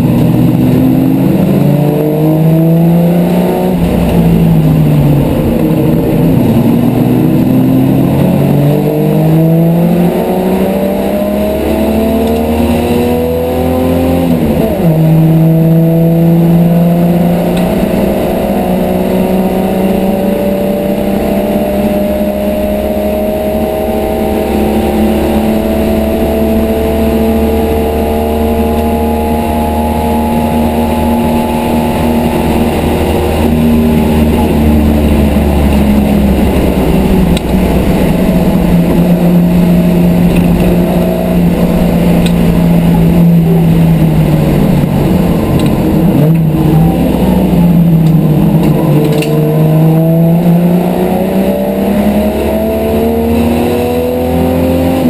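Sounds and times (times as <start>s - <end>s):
race car engine: 0.0s - 55.0s
road noise: 0.0s - 55.0s.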